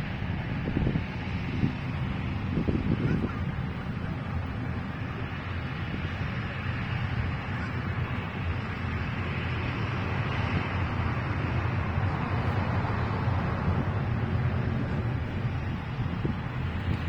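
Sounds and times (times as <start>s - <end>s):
airplane engine noise: 0.0s - 17.0s
wind buffeting microphone: 0.0s - 17.0s.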